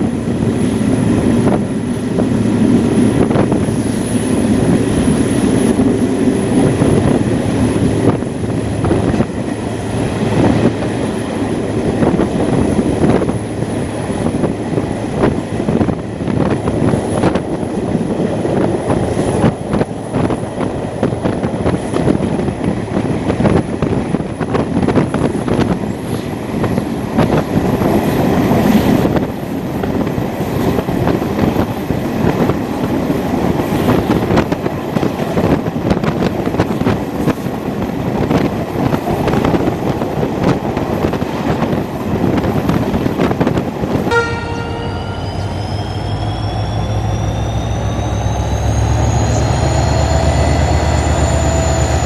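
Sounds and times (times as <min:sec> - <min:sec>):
rushing air: 0:00.0 - 0:52.0
train wheels rumbling on rail: 0:00.0 - 0:52.0.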